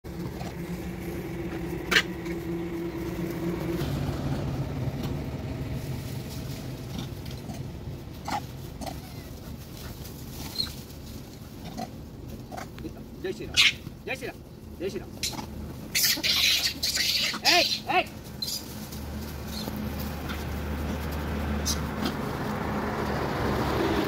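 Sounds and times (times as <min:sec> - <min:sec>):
vehicle engine running: 0:00.0 - 0:16.0, 0:16.6 - 0:24.0.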